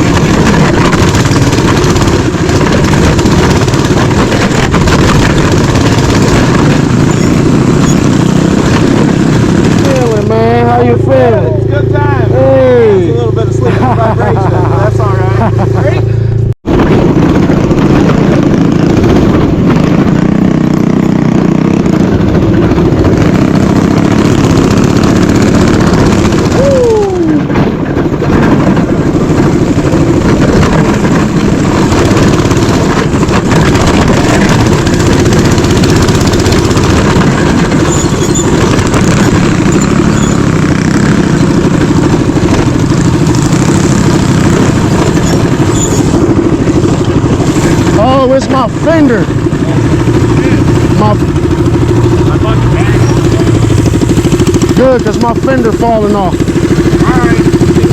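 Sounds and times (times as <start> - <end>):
mini bike engine running: 0.0 - 57.9.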